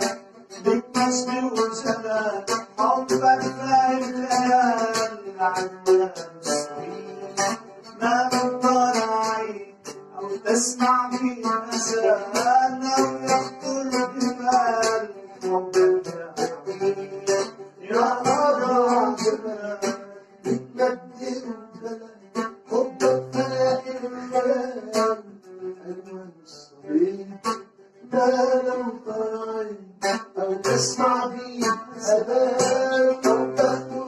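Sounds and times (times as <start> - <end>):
man singing: 0.0 - 34.0.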